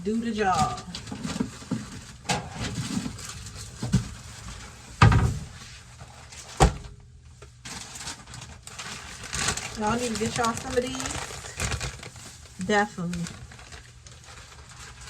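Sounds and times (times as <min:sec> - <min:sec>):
groceries knocking and thudding: 0:00.2 - 0:05.6, 0:06.5 - 0:07.1, 0:07.7 - 0:15.0.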